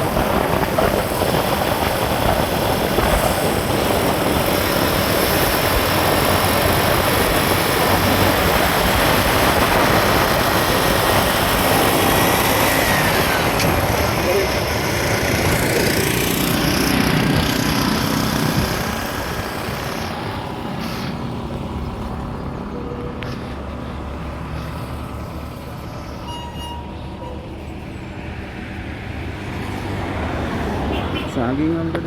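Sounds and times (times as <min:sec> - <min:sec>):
steady engine hum: 0:00.0 - 0:32.0
truck passing close: 0:00.0 - 0:32.0.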